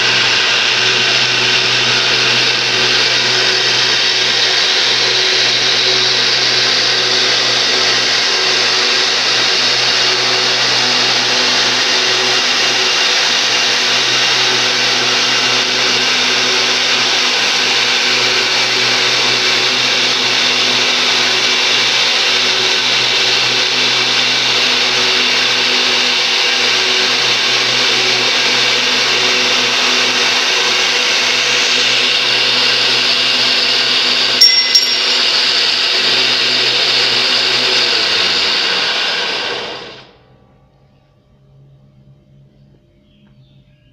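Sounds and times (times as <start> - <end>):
electric motor hum: 0.0 - 40.0
grinder belt whirring: 0.0 - 40.1.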